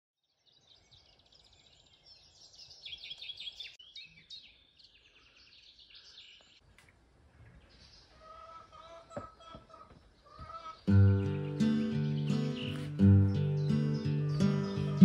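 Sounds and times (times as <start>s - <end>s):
songbirds chirping and trilling: 0.2s - 15.0s.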